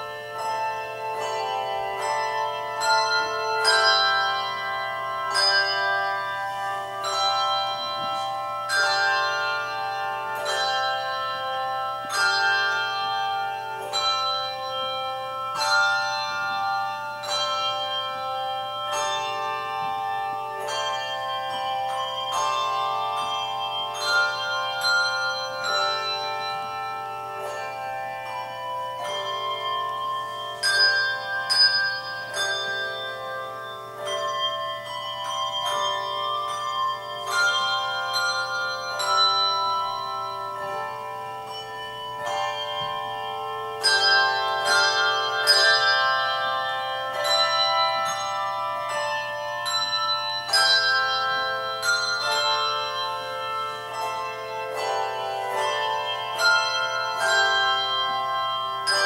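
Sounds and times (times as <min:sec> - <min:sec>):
handbell choir ringing a hymn: 0:00.0 - 0:59.0.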